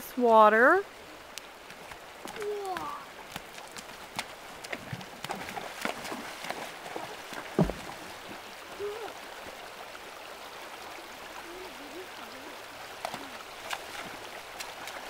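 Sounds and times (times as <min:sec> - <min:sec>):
horse hooves splashing in water: 0:00.0 - 0:15.0
trickle of moving water: 0:00.0 - 0:15.0.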